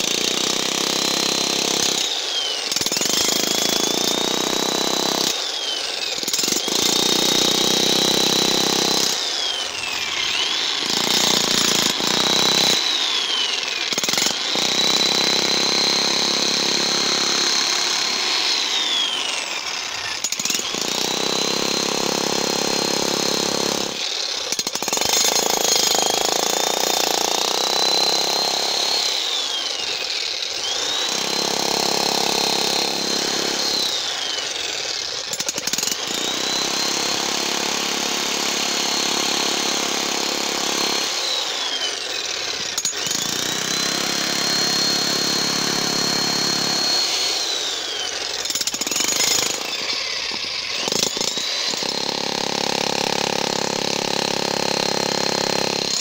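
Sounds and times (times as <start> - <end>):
electric breaker hammering concrete: 0.0 - 5.5, 6.2 - 29.3, 30.3 - 56.0.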